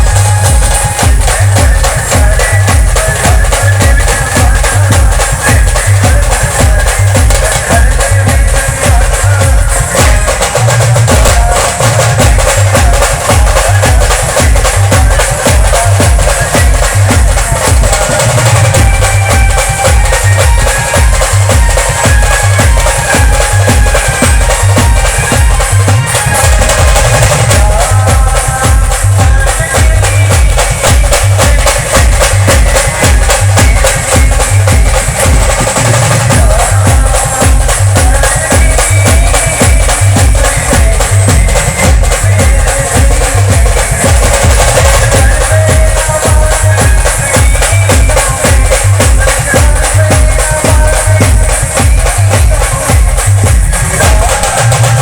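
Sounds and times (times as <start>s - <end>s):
band playing loud music: 0.0s - 55.0s
heavy drum beat: 0.0s - 55.0s.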